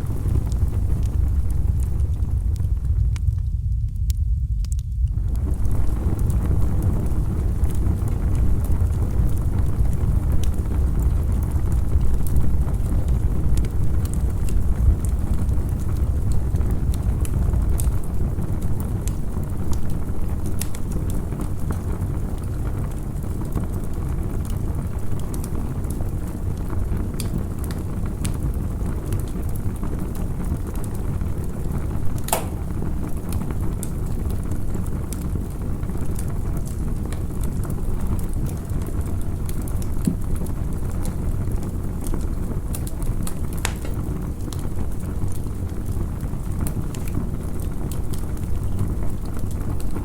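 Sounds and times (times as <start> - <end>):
campfire crackling and popping: 0.0 - 50.0
fire low rumble: 0.0 - 50.0.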